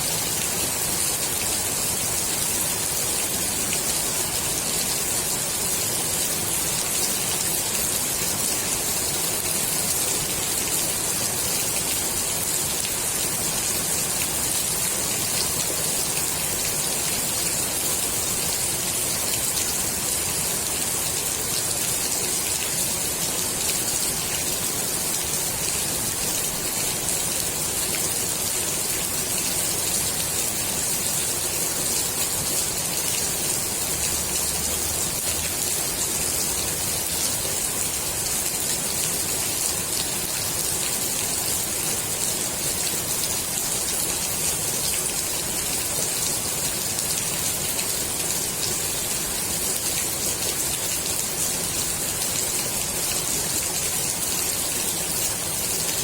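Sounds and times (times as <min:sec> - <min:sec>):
rain falling on pool water: 0:00.0 - 0:56.0.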